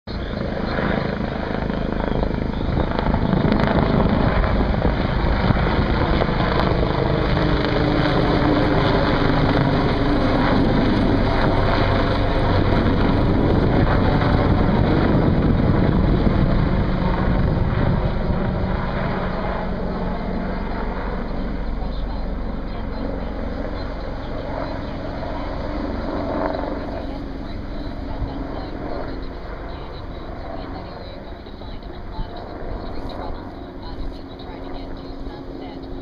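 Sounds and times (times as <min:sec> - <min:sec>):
helicopter rotor and engine: 0:00.1 - 0:36.0.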